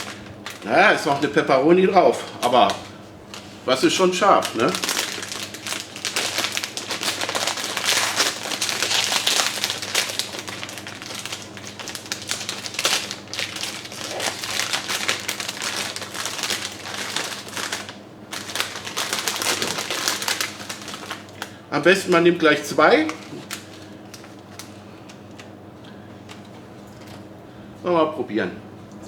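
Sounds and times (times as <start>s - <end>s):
plastic snack bag crinkling: 0.0s - 25.5s.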